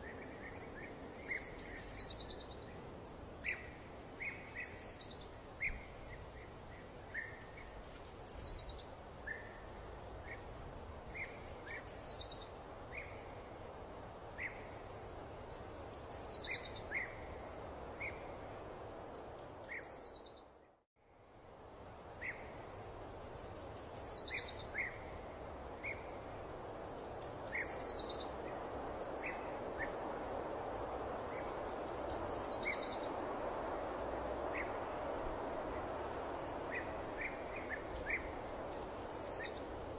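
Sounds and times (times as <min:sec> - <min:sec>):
songbird singing: 0:00.0 - 0:20.8, 0:21.4 - 0:39.9
steady background hiss: 0:00.0 - 0:39.9.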